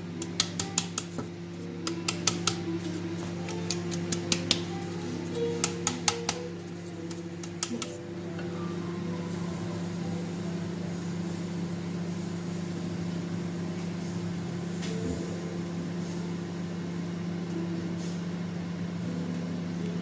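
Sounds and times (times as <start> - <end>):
oven fan humming: 0.0 - 20.0.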